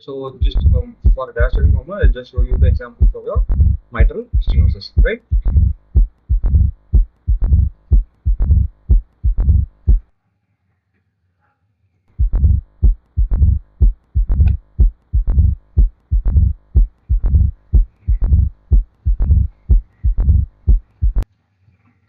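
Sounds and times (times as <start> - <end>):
heartbeat lub-dub: 0.4 - 10.1, 12.2 - 21.2.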